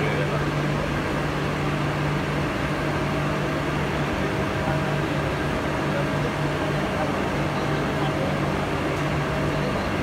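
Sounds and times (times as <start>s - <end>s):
faint steady whine: 0.0s - 10.0s.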